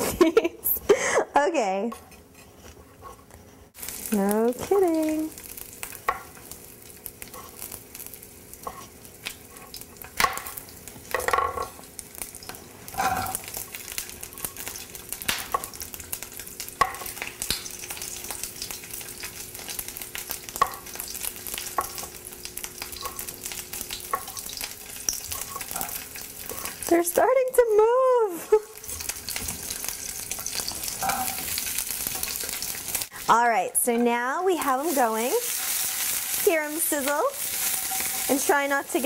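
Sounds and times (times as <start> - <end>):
sausage sizzling in oil: 3.7 - 39.0.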